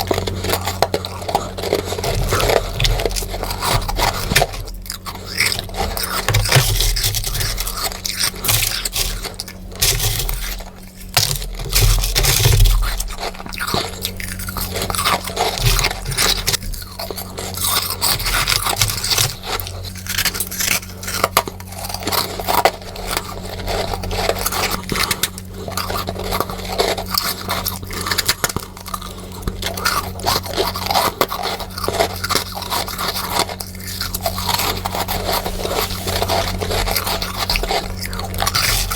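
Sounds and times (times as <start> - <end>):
frost crunching: 0.0 - 38.9.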